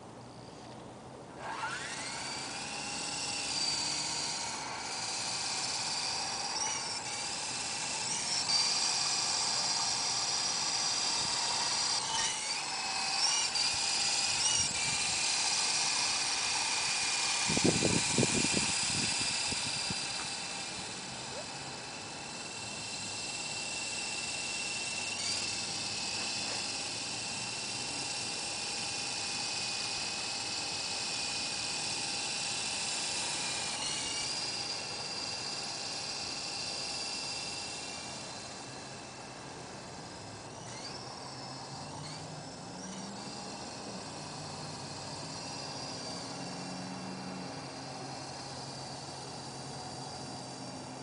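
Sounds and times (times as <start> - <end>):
rc helicopter rotors whining: 0.0 - 51.0.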